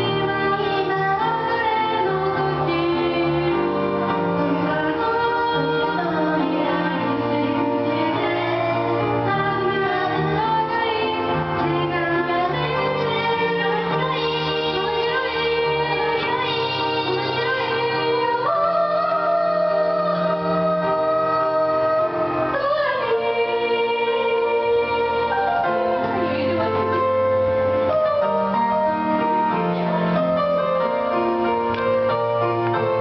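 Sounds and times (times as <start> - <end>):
girls singing in harmony: 0.0 - 26.9
piano backing track: 0.0 - 33.0.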